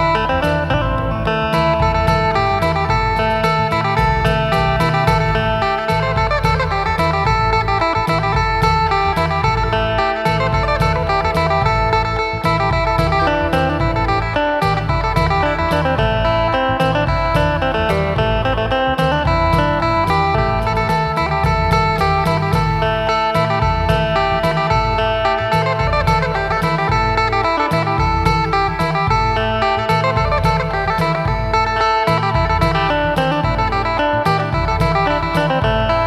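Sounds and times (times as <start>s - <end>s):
plucked lute melody: 0.0s - 36.0s
steady drone note: 0.0s - 36.0s.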